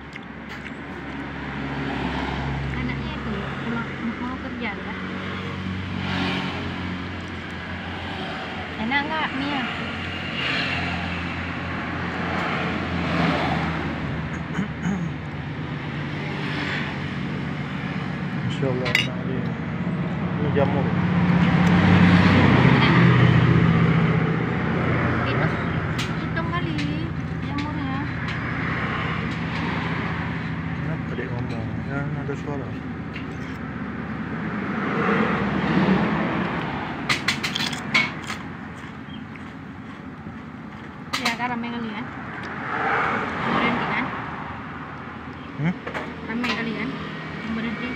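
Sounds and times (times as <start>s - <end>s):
vehicle engine passing: 0.8s - 47.9s.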